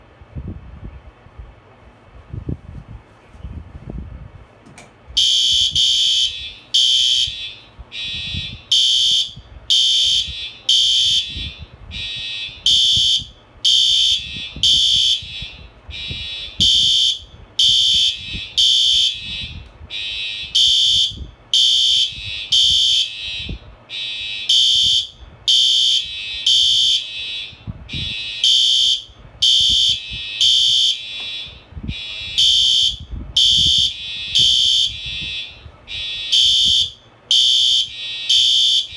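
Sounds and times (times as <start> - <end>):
fire alarm beeping: 5.2 - 38.9.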